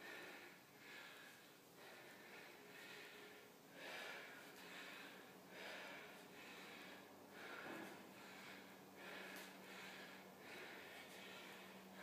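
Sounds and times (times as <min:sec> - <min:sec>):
woman breathing heavily: 0:00.0 - 0:12.0.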